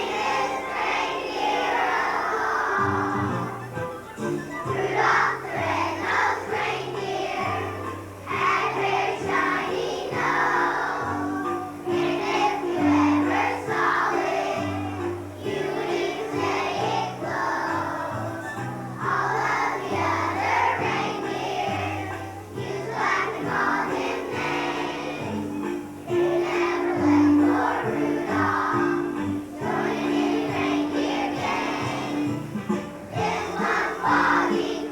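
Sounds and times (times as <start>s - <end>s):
children's choir singing: 0.0s - 34.9s
instrumental accompaniment with bass: 2.9s - 9.1s, 10.2s - 34.8s.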